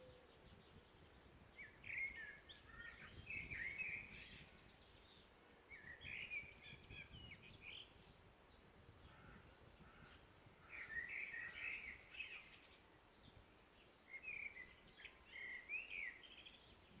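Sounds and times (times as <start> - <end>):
low background hiss: 0.0 - 17.0
songbirds singing: 0.0 - 17.0.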